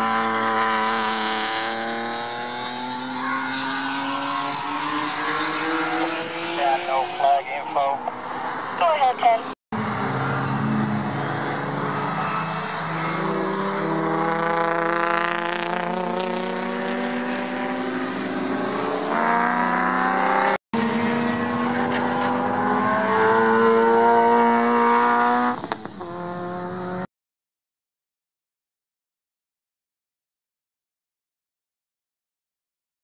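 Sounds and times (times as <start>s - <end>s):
race car engines accelerating: 0.0s - 27.1s.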